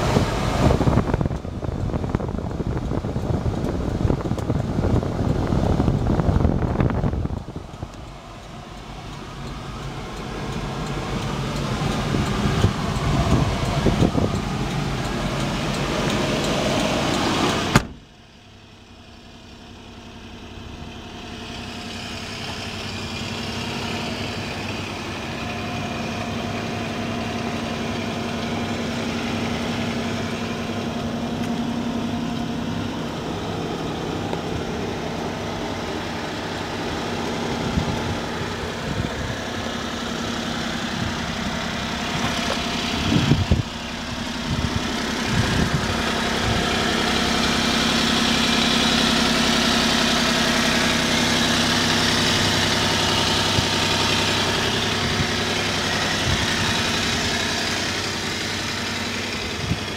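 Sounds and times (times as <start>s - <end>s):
small engine idling: 0.0s - 59.9s.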